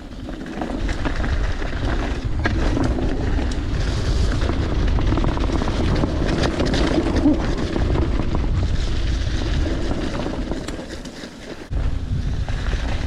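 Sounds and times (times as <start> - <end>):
bike rattling on rocky ground: 0.0 - 13.0
wind buffeting microphone: 0.8 - 10.8, 11.7 - 13.0.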